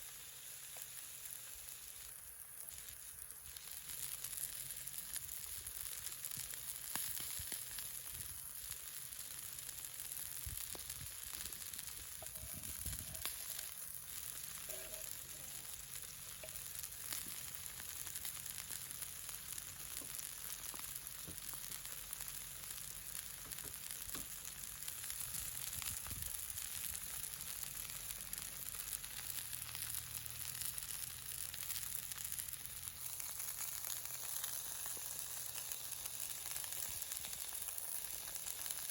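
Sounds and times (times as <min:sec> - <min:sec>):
steak sizzling in a pan: 0:00.0 - 0:38.9.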